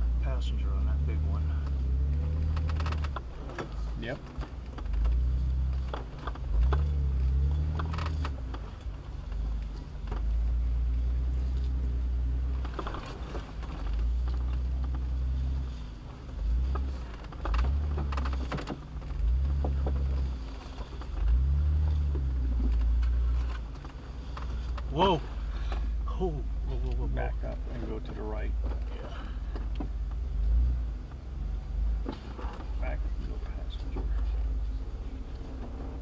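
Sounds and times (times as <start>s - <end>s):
off-road vehicle engine revving: 0.0s - 36.0s.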